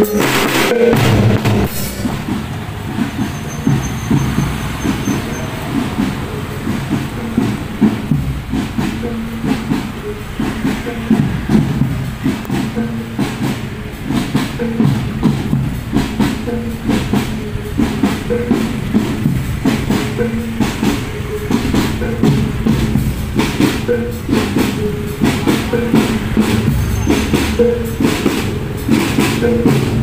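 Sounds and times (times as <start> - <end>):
drums beating marching rhythm: 0.0 - 30.0
repeated pitched melody notes: 0.0 - 30.0.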